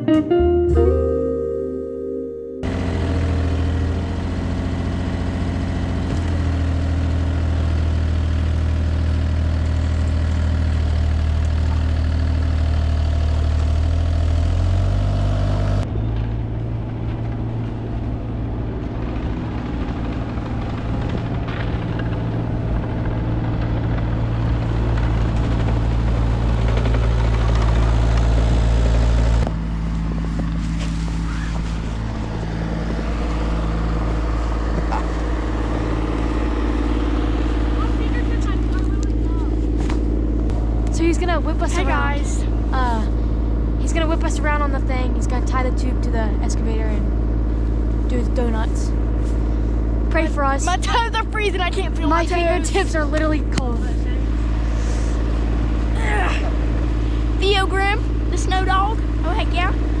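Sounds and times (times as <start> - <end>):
excavator diesel engine running: 2.6 - 60.0.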